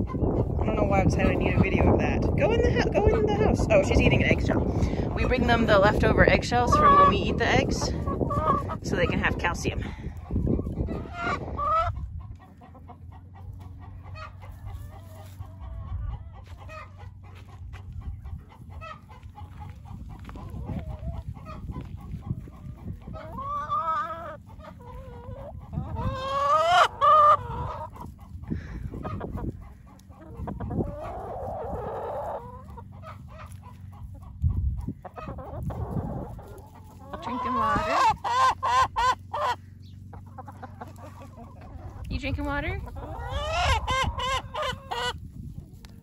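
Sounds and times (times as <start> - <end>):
hens clucking and calling: 0.0 - 46.0.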